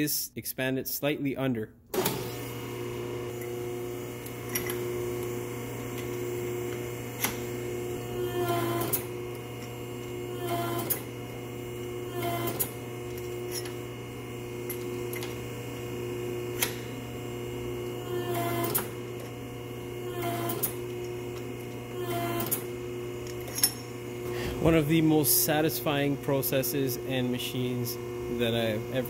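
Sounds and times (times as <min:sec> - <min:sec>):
hydraulic pump hum: 0:01.9 - 0:29.0.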